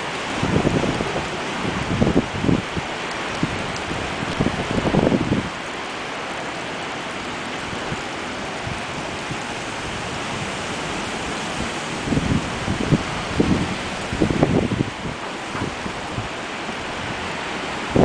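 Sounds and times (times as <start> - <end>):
wind buffeting microphone: 0.0 - 5.7, 7.2 - 18.0
strong wind blowing: 0.0 - 18.0.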